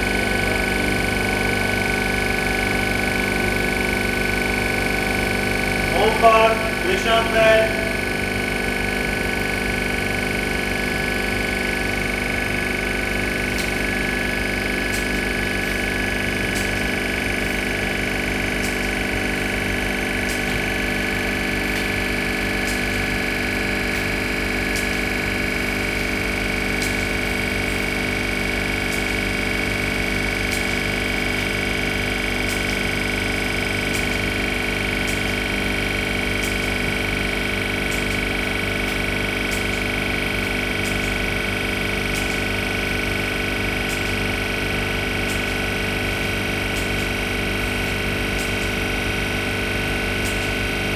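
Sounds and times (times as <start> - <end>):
refrigeration compressor humming: 0.0 - 50.9.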